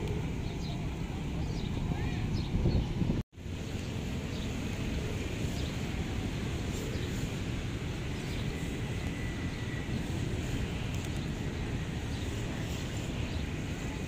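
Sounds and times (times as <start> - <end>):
street ambience rumble: 0.0 - 14.0.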